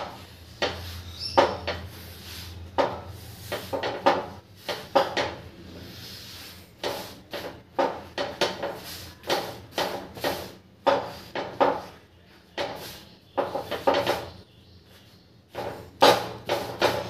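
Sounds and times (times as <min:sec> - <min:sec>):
hand slapping flatbread on a griddle: 0:00.0 - 0:05.5, 0:06.1 - 0:17.0.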